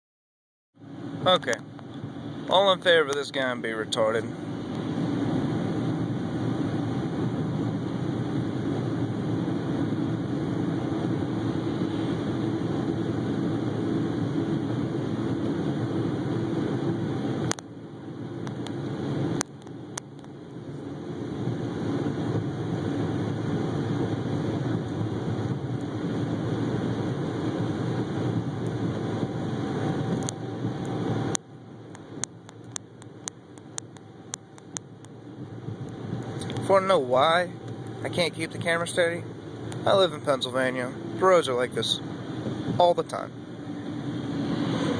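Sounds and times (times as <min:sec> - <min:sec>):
vehicle engine and road rumble: 0:00.8 - 0:44.9.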